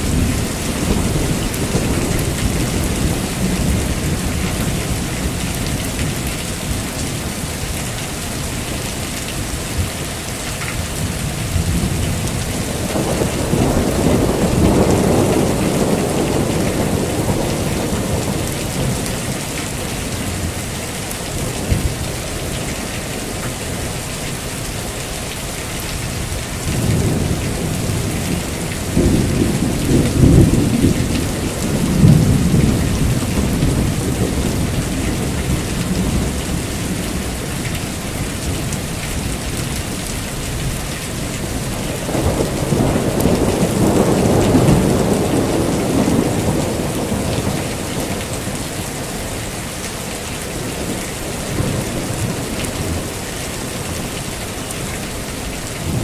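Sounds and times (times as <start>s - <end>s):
thunder rumbling: 0.0s - 7.6s, 11.0s - 25.2s, 25.8s - 49.4s, 55.7s - 56.0s
heavy rain: 0.0s - 56.0s.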